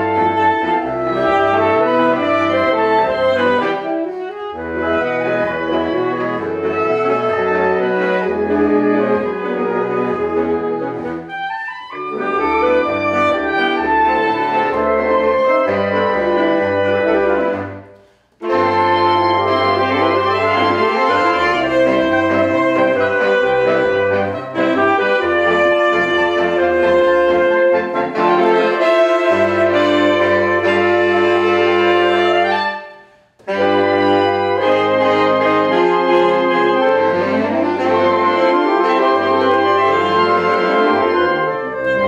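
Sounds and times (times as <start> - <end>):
saxophone ensemble playing: 0.0 - 42.0.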